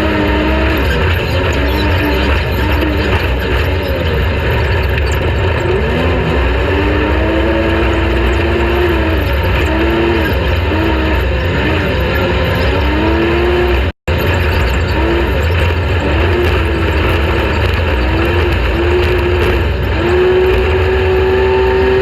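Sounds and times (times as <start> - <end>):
low rumble and rushing noise: 0.0 - 22.0
race vehicle engine revving: 0.0 - 22.0.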